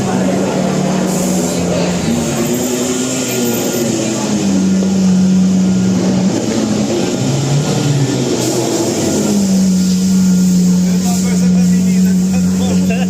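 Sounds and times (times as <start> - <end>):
car engine steady note: 0.0 - 13.0.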